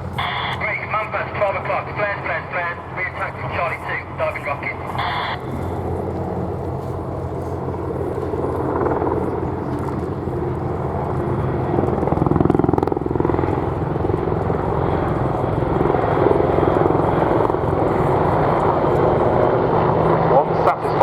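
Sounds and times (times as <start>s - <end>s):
helicopters flying by: 0.0s - 21.0s.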